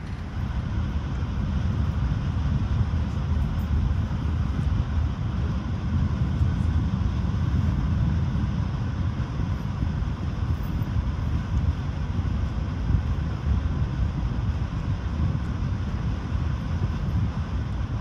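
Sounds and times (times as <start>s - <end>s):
moving train rumble: 0.0s - 18.0s.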